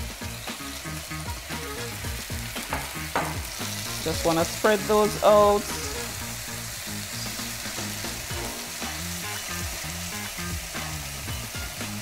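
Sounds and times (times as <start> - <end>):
mushrooms sizzling in a frying pan: 0.0 - 12.0.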